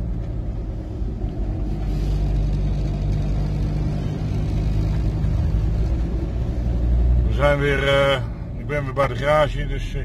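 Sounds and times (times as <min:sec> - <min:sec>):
engine droning: 0:00.0 - 0:10.0
road rumble: 0:00.0 - 0:10.0.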